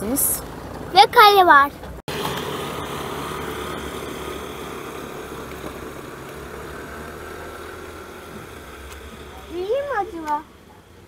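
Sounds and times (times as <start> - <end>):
engine hum: 0.0 - 11.0
outdoor background noise: 0.0 - 11.0.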